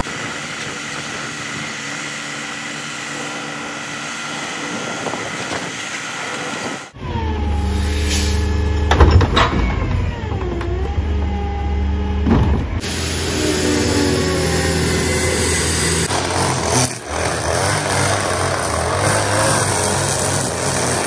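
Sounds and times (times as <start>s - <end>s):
garbage truck engine whine: 0.0s - 21.0s
truck engine humming: 0.0s - 21.0s.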